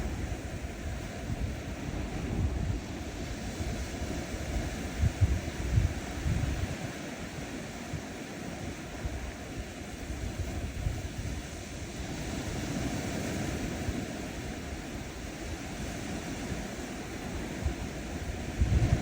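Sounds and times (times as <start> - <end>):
small waves washing onto sand: 0.0 - 19.0
wind on microphone: 0.0 - 19.0.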